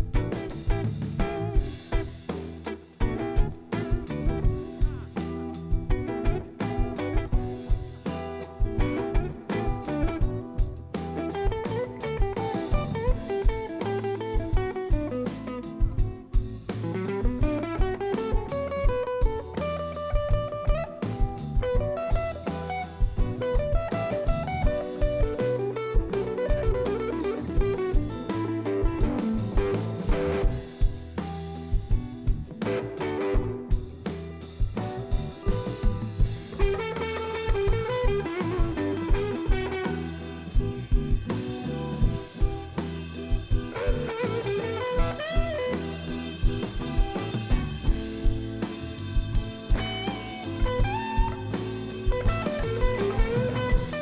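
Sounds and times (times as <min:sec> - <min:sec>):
bass guitar: 0:00.0 - 0:54.0
drum kit beat: 0:00.0 - 0:54.0
electric guitar lead line: 0:00.0 - 0:54.0.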